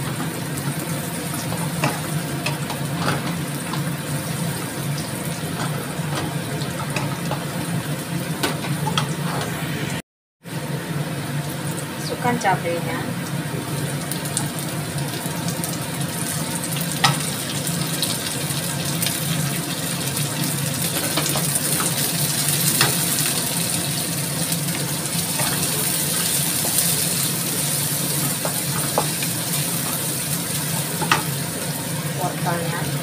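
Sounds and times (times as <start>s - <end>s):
food sizzling in hot oil: 0.0s - 9.5s, 10.5s - 33.0s.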